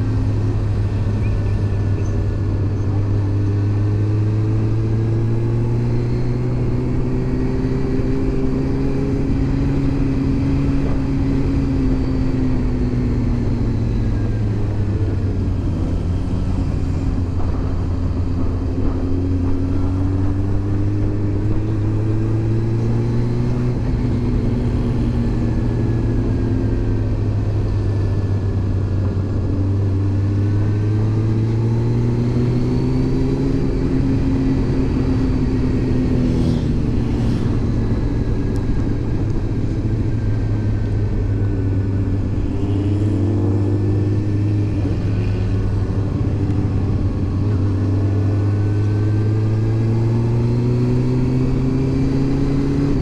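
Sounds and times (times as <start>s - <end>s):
motorcycle engine accelerating: 0.0s - 53.0s
road rumble: 0.0s - 53.0s
wind: 0.0s - 53.0s.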